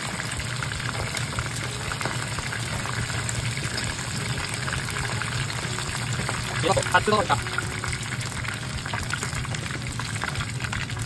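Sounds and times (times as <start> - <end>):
deep-frying sizzle and crackle: 0.0 - 11.0.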